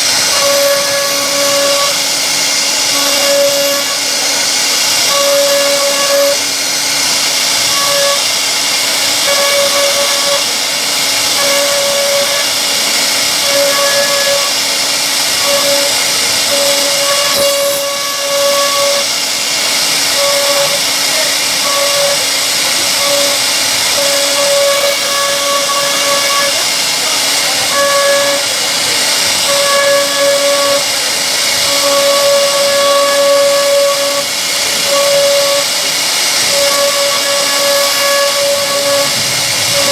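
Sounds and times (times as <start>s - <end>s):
machine whine: 0.0s - 39.9s
router spindle cutting hiss: 0.0s - 39.9s.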